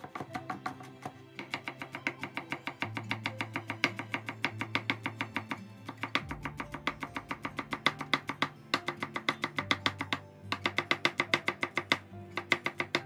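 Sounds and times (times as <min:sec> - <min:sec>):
background music: 0:00.0 - 0:13.0
knife tapping on cutting board: 0:00.0 - 0:13.0.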